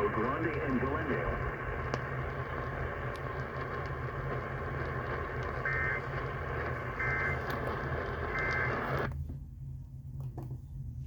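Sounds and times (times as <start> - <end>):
radio static and hum: 0.0 - 9.1
warbling data bursts: 0.0 - 9.1.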